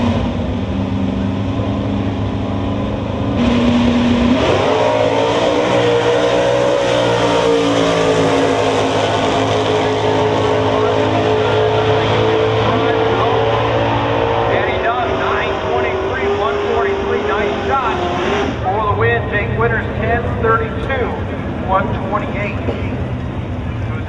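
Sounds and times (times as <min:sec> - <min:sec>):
drag racers accelerating: 0:00.0 - 0:24.0.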